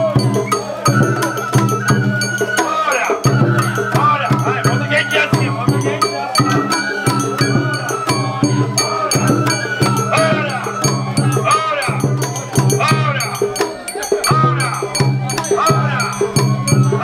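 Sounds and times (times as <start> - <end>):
sustained high melody: 0.0 - 17.0
taiko drums: 0.0 - 17.0.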